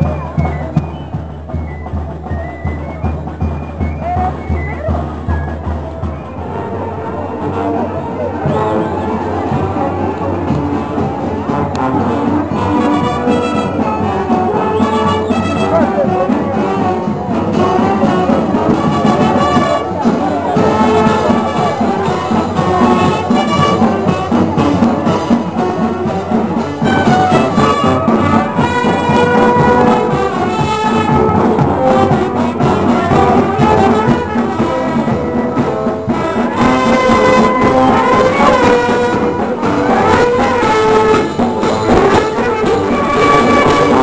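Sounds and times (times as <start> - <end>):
marching brass band playing: 0.0 - 44.0.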